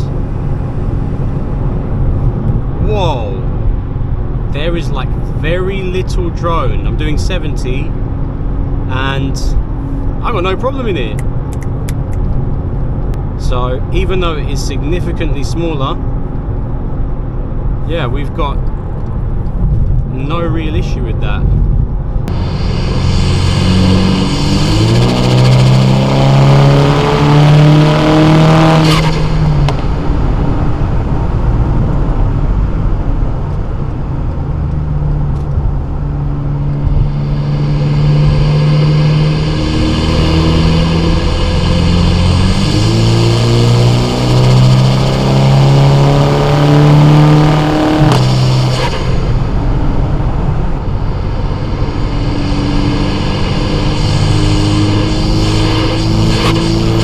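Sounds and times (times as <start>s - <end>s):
car engine accelerating: 0.0s - 57.0s
exhaust crack: 0.0s - 57.0s.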